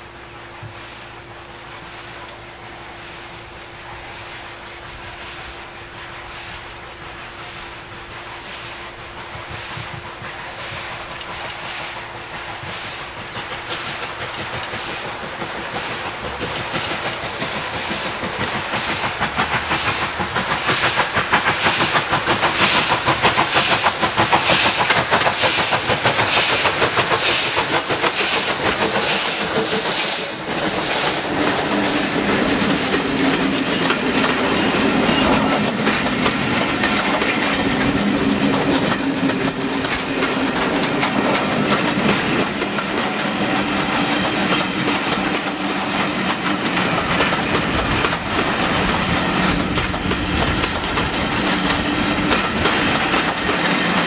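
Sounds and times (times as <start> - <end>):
steam locomotive exhaust beats: 0.0 - 54.0
train wheels clicking over rail joints: 4.6 - 54.0.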